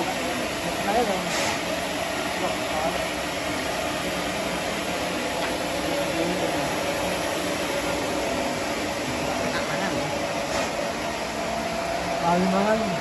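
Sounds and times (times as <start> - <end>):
bandsaw sawmill running: 0.0 - 13.0.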